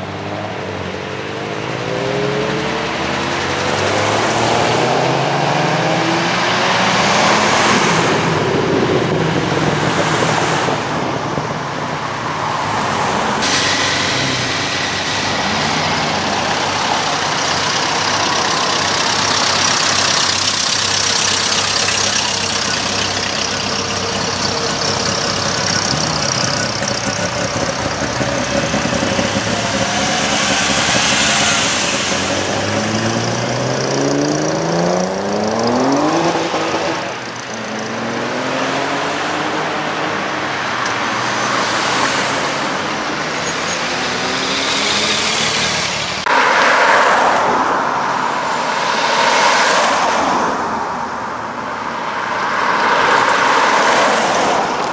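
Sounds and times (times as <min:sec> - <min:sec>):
car engines passing: 0:00.0 - 0:54.9
road and tyre noise: 0:00.0 - 0:54.9.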